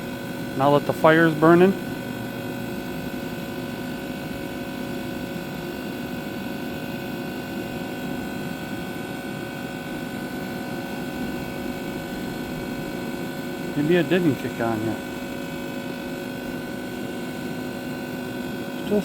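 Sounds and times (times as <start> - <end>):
fan and motor humming: 0.0 - 19.0.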